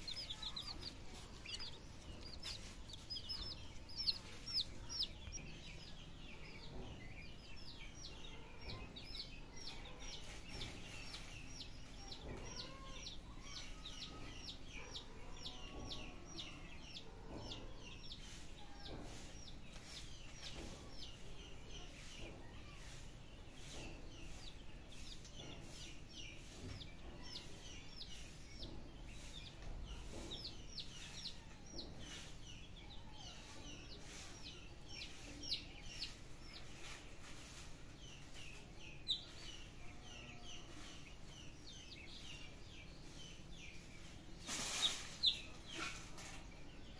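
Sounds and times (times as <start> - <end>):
chicks and ducklings peeping: 0.0 - 46.9.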